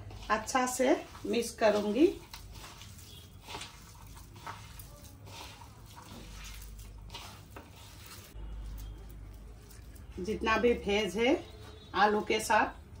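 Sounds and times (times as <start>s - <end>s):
food being mixed in a bowl: 0.0s - 13.0s.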